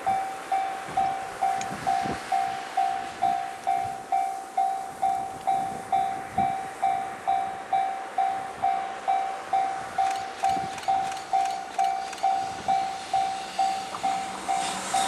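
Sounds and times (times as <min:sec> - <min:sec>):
level crossing warning bell ringing: 0:00.0 - 0:15.0.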